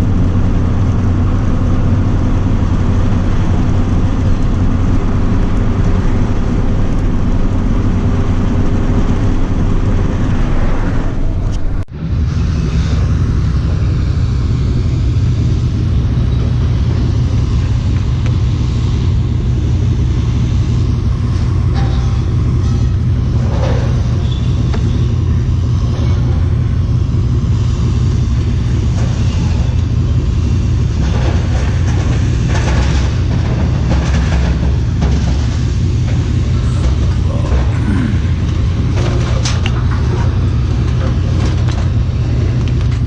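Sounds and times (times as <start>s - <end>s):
truck engine and tyre rumble: 0.0s - 43.0s.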